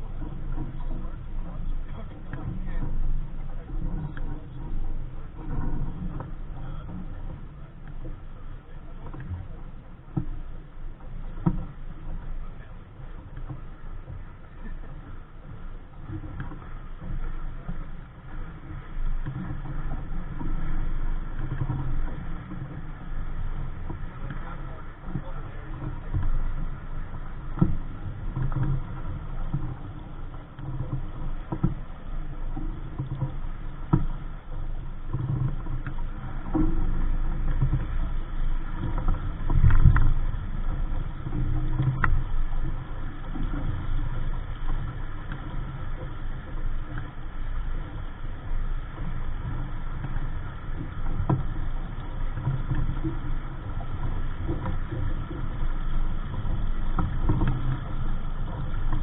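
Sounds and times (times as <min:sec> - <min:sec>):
wind and water rushing past hull: 0:00.0 - 0:59.0.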